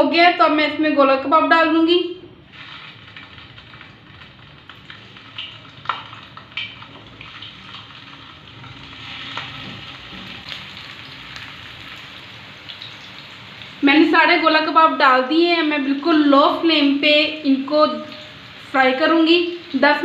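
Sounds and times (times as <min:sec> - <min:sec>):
meat sizzling in oil: 0:02.4 - 0:20.0.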